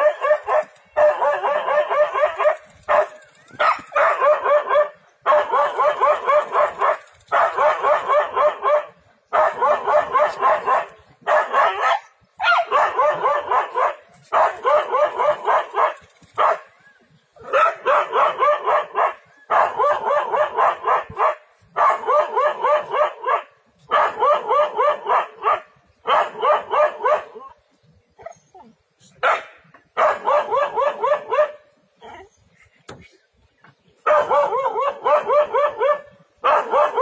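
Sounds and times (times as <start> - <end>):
dog barking shrilly: 0.0 - 16.8, 17.4 - 27.6, 29.2 - 31.8, 34.0 - 37.0.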